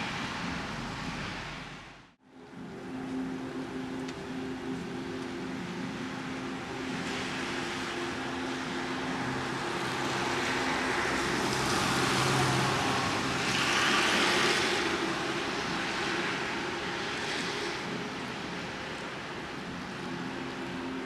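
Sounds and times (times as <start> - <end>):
car passing: 0.0 - 21.0.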